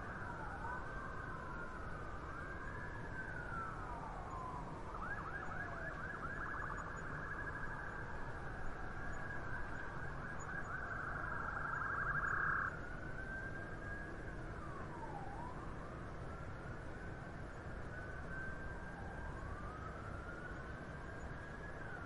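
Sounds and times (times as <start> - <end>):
emergency vehicle siren: 0.0 - 22.0
low traffic rumble: 0.0 - 22.0.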